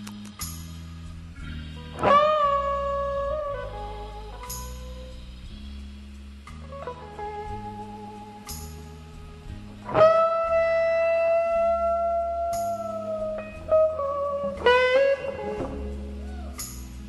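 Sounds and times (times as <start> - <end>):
bass line: 0.0 - 17.0
guitar notes: 0.0 - 17.0.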